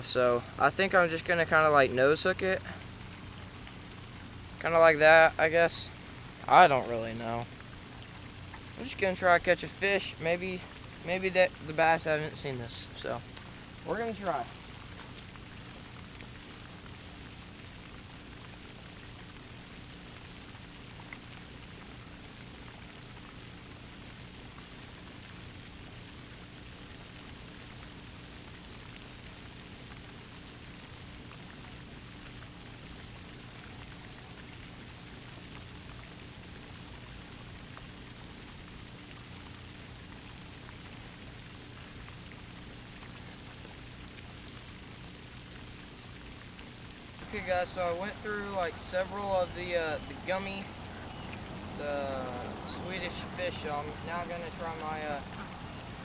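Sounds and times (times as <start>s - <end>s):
background hiss: 0.0s - 56.0s.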